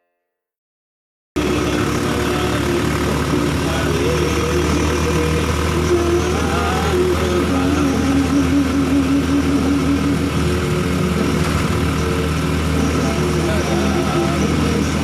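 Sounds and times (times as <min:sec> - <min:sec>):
motorcycle engine running: 0:01.4 - 0:15.0
road noise: 0:01.4 - 0:15.0
wavering tone: 0:01.4 - 0:15.0.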